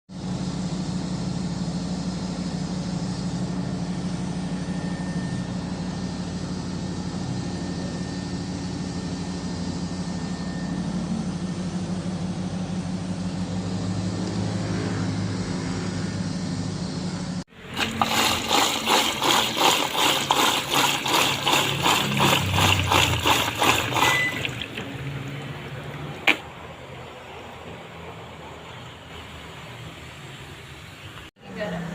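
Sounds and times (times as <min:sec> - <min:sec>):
washing machine motor hum: 0:00.1 - 0:31.8.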